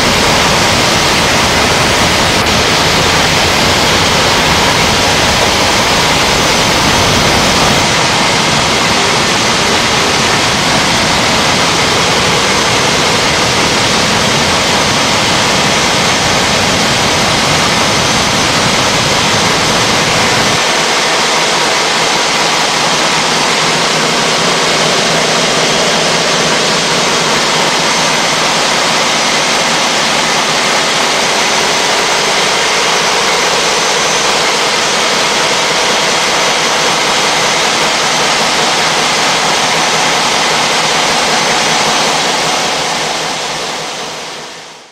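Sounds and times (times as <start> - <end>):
loud furnace rushing noise: 0.0 - 44.9.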